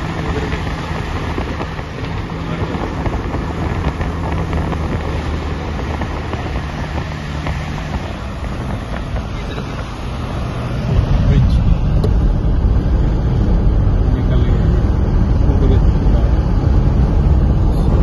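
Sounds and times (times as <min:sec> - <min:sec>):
car road and wind noise: 0:00.0 - 0:18.0
low car hum: 0:00.0 - 0:18.0.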